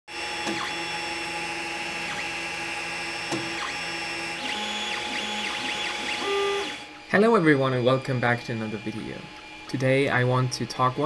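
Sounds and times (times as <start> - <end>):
stepper motors whining: 0.1 - 11.0
steady hum: 0.4 - 11.0.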